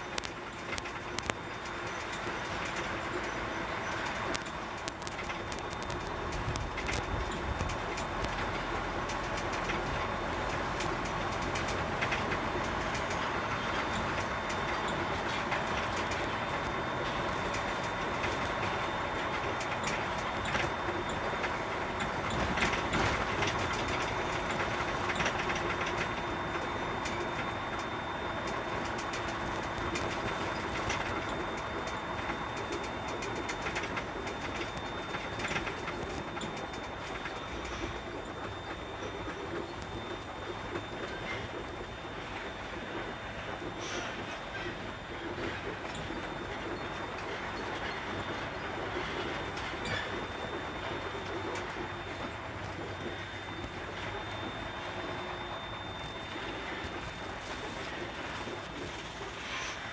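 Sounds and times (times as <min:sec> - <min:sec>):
diesel engine and road rumble: 0:00.0 - 0:59.6.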